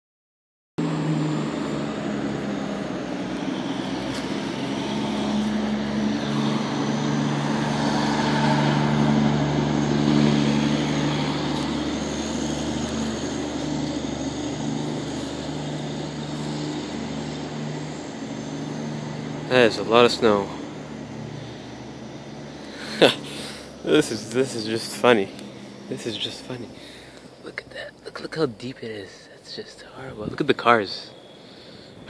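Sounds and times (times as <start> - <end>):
engine running: 0.8 - 32.0.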